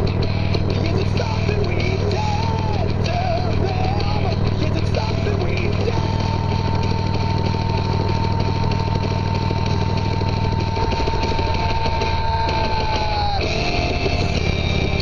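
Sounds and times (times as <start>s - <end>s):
motorcycle engine running: 0.0s - 15.0s
steady high tone: 0.0s - 15.0s.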